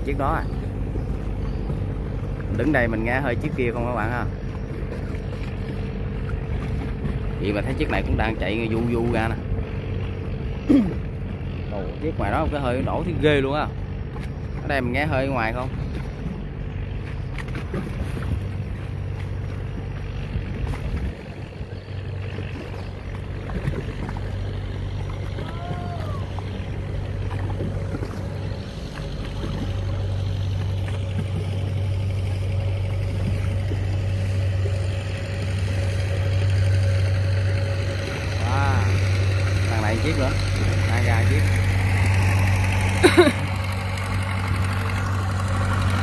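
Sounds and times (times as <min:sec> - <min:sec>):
boat diesel engine droning: 0:00.0 - 0:46.0.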